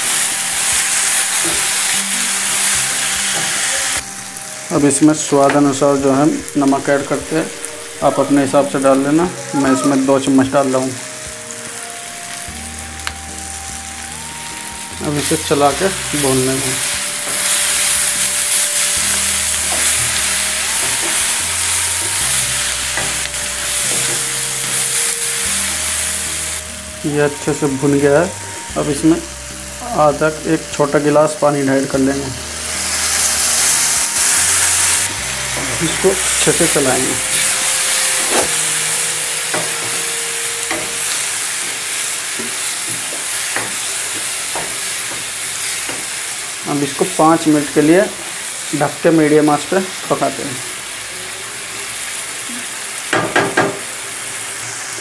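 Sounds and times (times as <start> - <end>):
vegetables sizzling in oil: 0.0 - 55.0.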